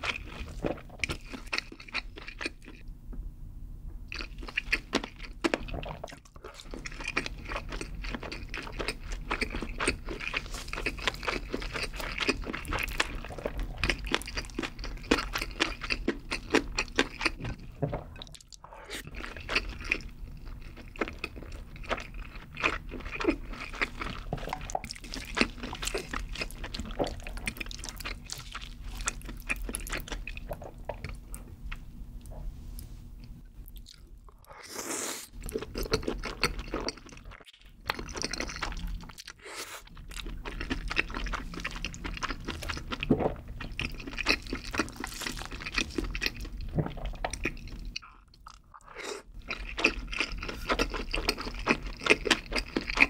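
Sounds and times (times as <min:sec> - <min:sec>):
wet chewing: 0:00.0 - 0:02.8, 0:04.1 - 0:32.3, 0:33.2 - 0:53.0.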